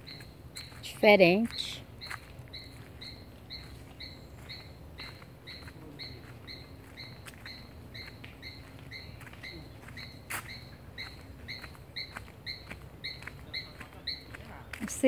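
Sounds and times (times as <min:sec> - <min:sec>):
bird calling high note: 0:00.8 - 0:14.7.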